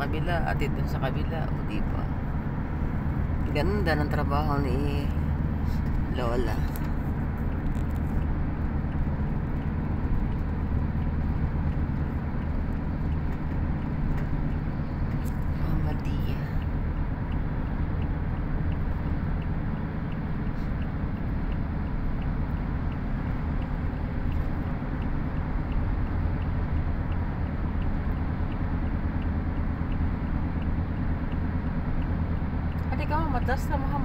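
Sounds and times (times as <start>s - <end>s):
tyres and engine rumbling: 0.0s - 34.0s.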